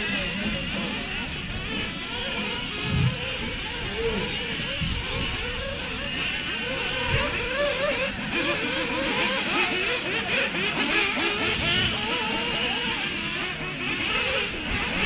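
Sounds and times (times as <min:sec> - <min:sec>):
rc buggy motors revving: 0:00.0 - 0:15.0.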